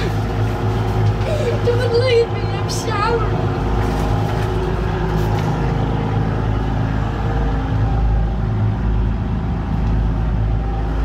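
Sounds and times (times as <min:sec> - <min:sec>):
yacht engines droning: 0:00.0 - 0:11.0.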